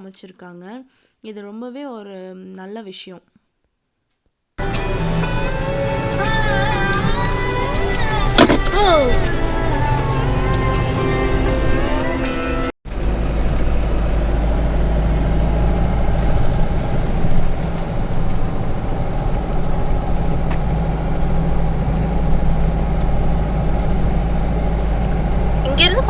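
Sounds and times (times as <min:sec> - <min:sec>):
vehicle engine and road rumble: 0:04.6 - 0:26.0.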